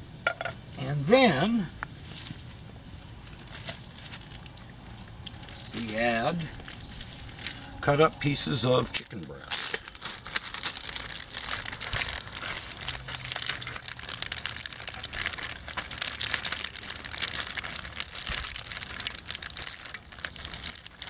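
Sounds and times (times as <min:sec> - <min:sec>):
plastic zipper bag crinkling: 0:03.1 - 0:21.0.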